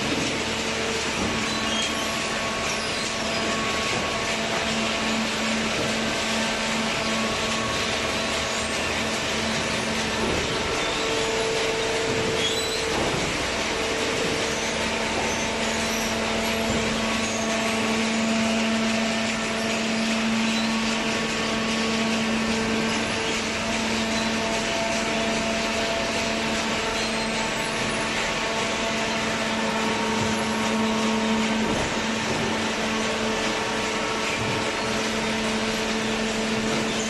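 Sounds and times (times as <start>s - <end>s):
hydraulic power unit humming: 0.0s - 37.0s.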